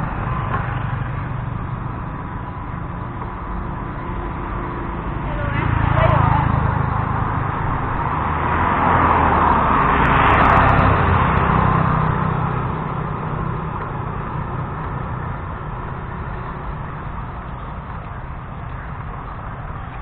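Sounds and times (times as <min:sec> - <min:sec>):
motorbike passing by: 0:00.0 - 0:20.0.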